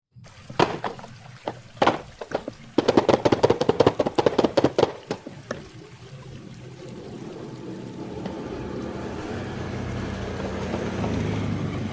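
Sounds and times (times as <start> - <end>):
faint steady hum: 0.2 - 11.9.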